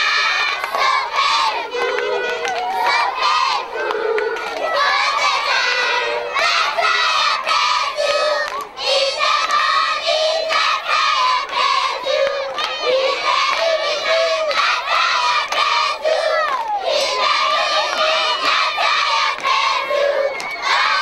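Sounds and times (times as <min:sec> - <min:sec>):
children shouting and chanting: 0:00.0 - 0:21.0.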